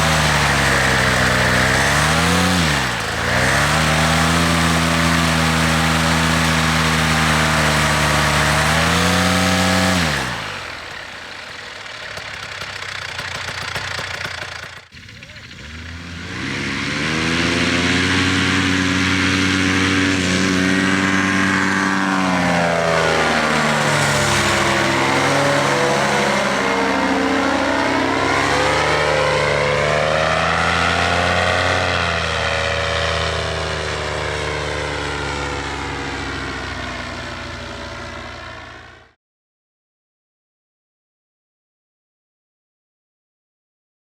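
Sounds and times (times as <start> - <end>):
paramotor engine running: 0.0 - 39.2.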